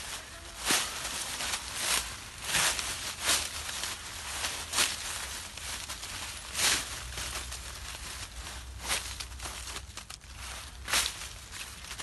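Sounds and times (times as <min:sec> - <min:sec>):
dry leaves rustling and crunching: 0:00.0 - 0:12.0.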